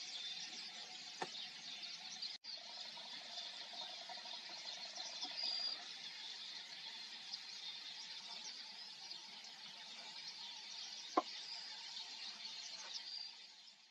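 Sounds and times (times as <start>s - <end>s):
small birds twittering: 0.0s - 13.9s.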